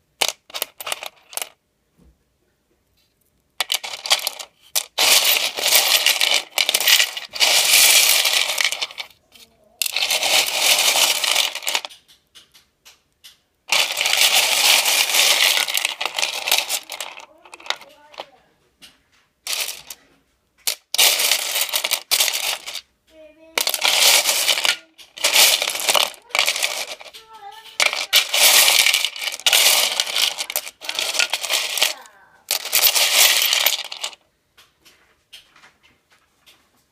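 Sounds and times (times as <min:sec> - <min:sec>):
opal stones rattling and clinking: 0:00.2 - 0:01.6, 0:03.6 - 0:18.4, 0:19.4 - 0:22.9, 0:23.6 - 0:34.2.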